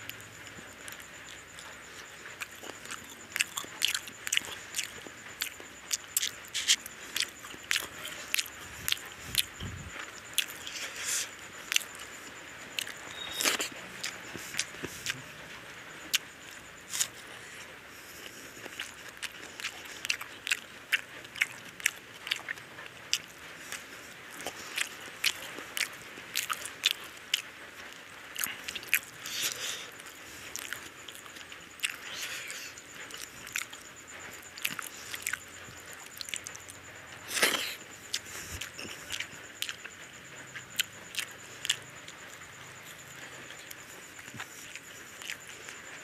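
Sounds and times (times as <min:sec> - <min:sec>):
person chewing with wet clicks: 0:00.1 - 0:46.0.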